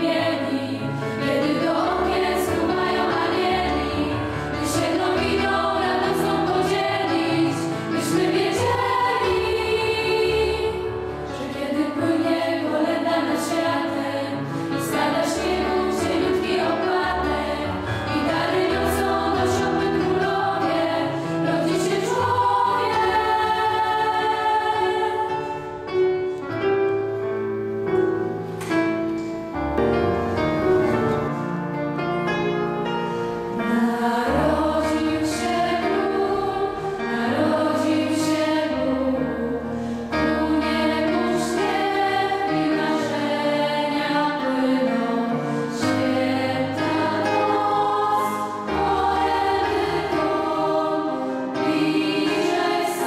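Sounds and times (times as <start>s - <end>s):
girls' choir singing a carol: 0.0s - 26.8s, 33.3s - 53.0s.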